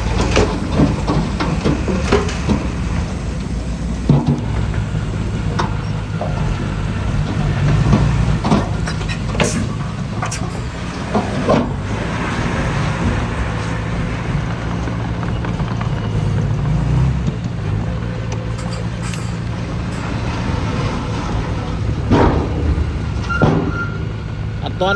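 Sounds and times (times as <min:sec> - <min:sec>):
diesel engine running: 0:00.0 - 0:24.9
sharp knocks and clanks: 0:00.0 - 0:24.9.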